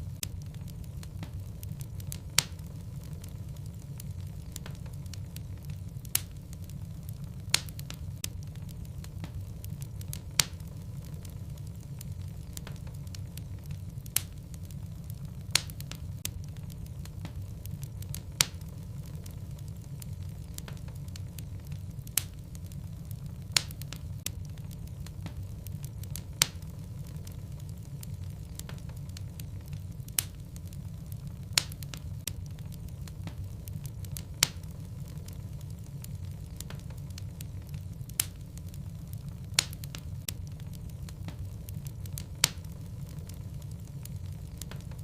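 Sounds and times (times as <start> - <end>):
fire rumbling: 0.0 - 45.0
logs crackling and popping: 0.0 - 45.0.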